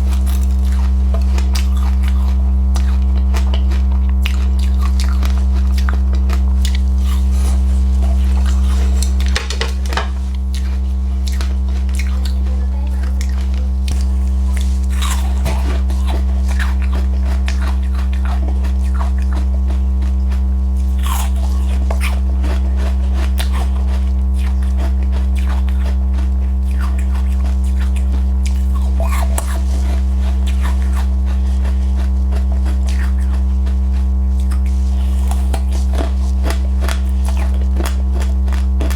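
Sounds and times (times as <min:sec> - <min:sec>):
crunching and chewing: 0:00.0 - 0:38.9
loud low hum: 0:00.0 - 0:38.9.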